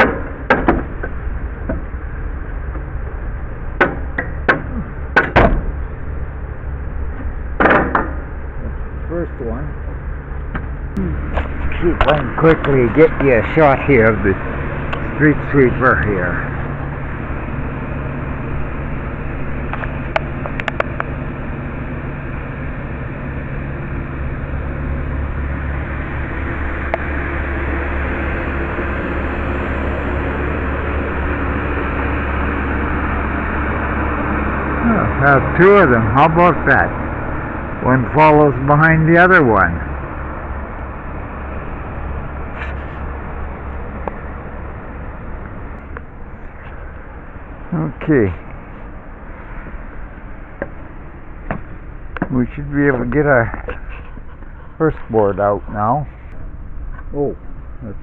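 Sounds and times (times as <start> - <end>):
road noise: 0.0 - 58.0
street sweeper droning: 0.0 - 58.0.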